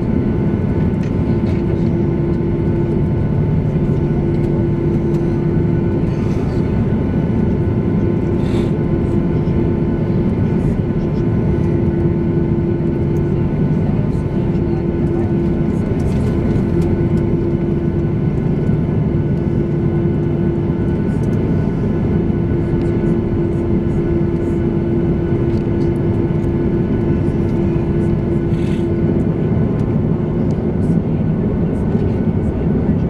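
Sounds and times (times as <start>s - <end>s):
jet engines rumbling at low power: 0.0s - 33.0s.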